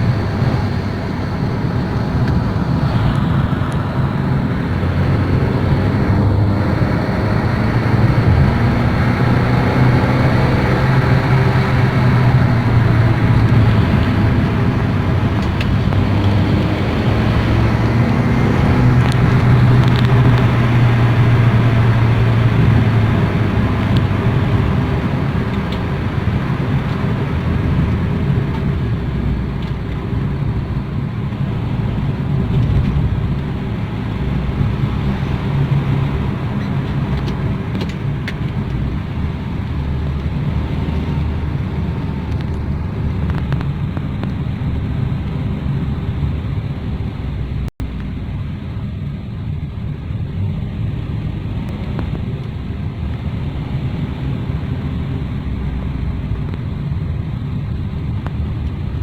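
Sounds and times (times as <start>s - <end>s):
car engine humming: 0.0s - 59.0s
tyre and road noise: 0.0s - 59.0s.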